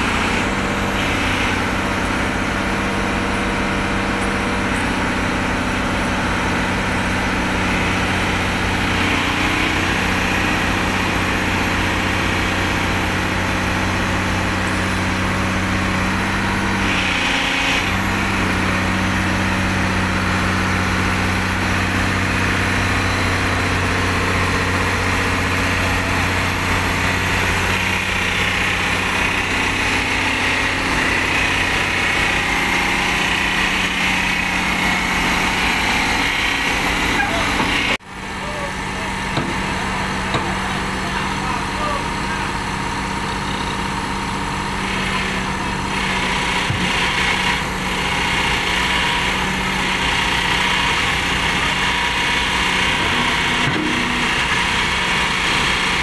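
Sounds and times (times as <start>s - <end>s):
diesel engine under load: 0.0s - 56.0s
hydraulic pump growling: 0.0s - 56.0s.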